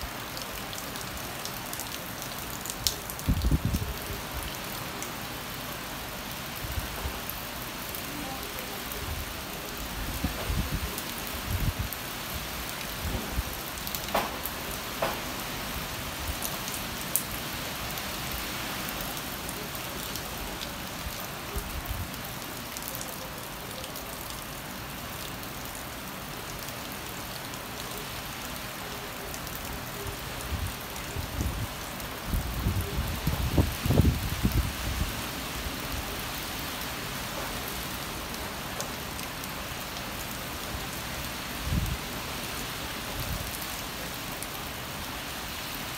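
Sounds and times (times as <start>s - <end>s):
rain falling on trees: 0.0s - 45.9s.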